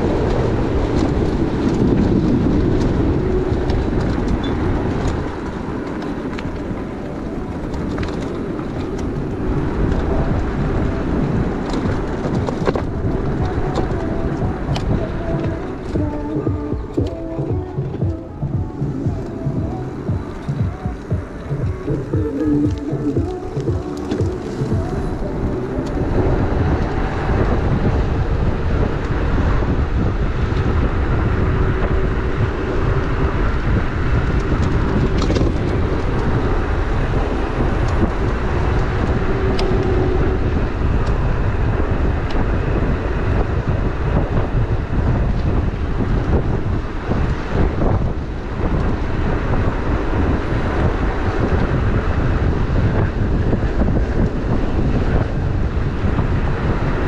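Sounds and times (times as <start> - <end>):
tyres rumbling on pavement: 0.0 - 57.0
wind rushing over microphone: 0.0 - 57.0.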